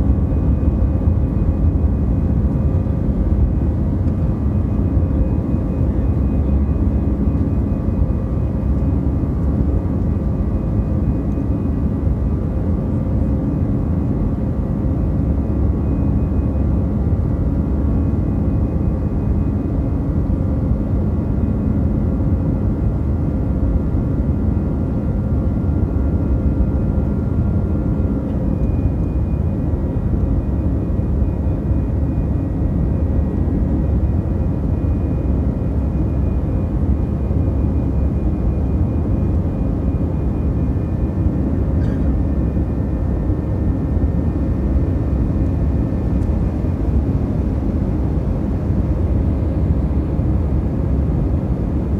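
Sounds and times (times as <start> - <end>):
jet cabin rumble: 0.0 - 51.9.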